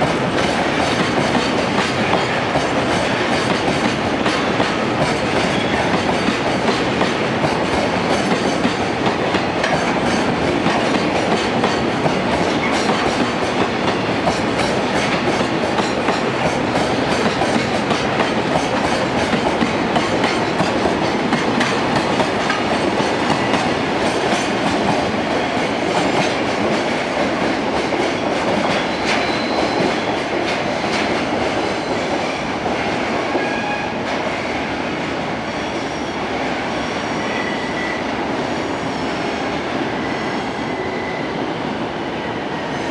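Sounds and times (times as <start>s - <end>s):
train wheels clacking on rails: 0.0s - 34.6s.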